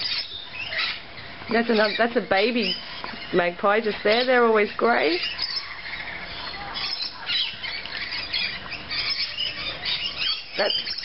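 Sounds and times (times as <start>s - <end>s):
birds squawking and chattering: 0.0s - 11.0s.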